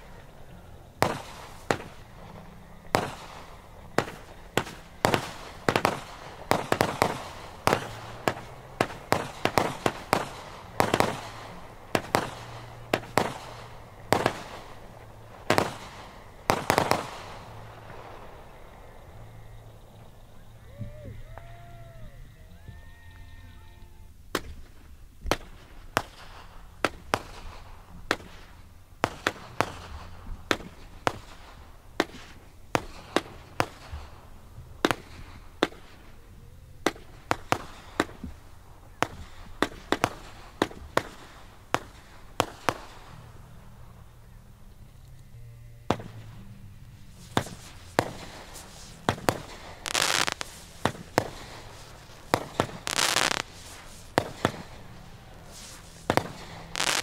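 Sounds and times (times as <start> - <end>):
fireworks booming: 0.0 - 21.8, 24.3 - 44.8, 45.8 - 57.0.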